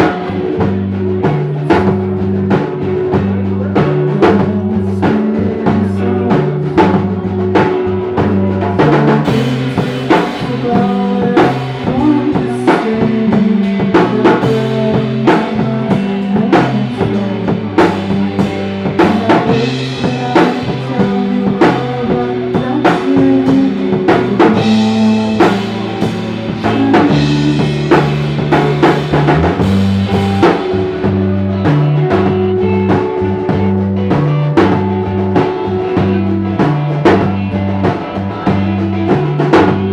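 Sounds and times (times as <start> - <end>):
bass guitar: 0.0 - 39.9
drum kit: 0.0 - 39.9
guitars: 0.0 - 39.9.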